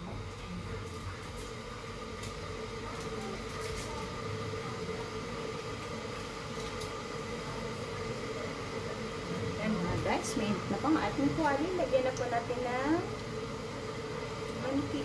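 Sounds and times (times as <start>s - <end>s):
gas stove burner roaring: 0.0s - 15.0s.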